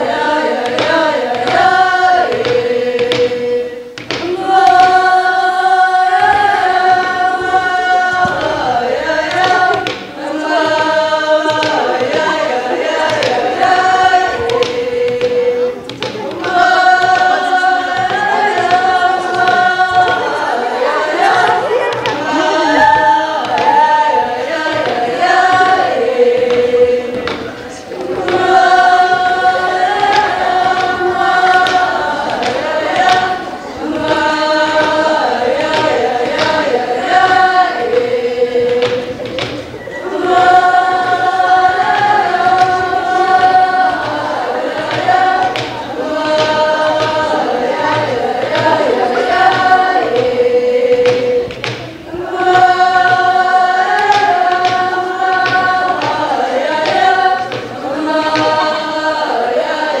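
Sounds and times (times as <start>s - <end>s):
girls singing together: 0.0s - 60.0s.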